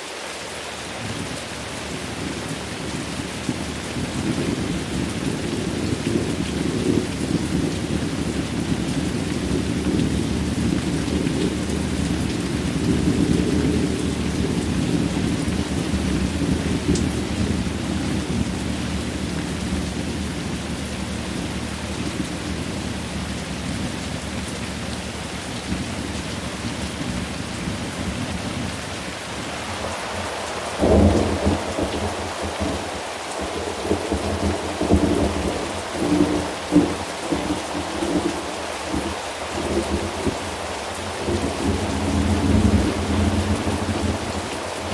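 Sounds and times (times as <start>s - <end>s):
steady rain: 0.0s - 44.9s
rolling thunder rumble: 2.0s - 44.9s.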